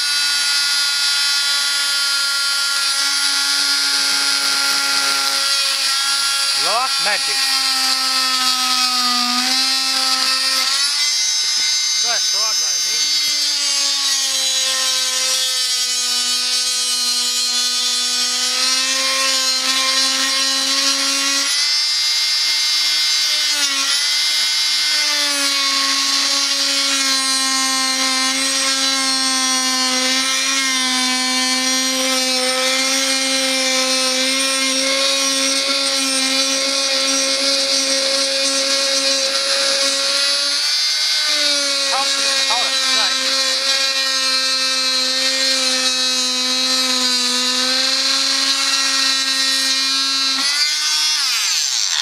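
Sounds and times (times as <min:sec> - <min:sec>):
oscillating tool buzzing through wood: 0:00.0 - 0:52.0.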